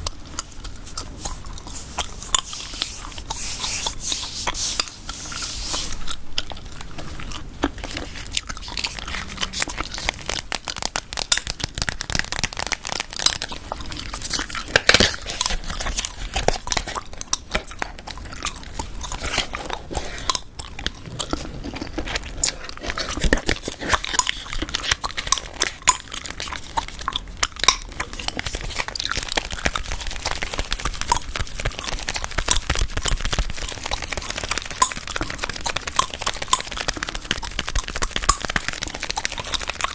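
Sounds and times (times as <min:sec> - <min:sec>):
gum chewing: 0:00.0 - 0:39.9.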